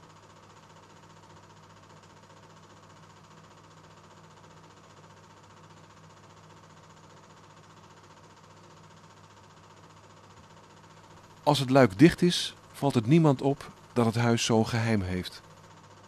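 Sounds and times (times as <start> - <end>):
faint steady hum and hiss: 0.0 - 16.0.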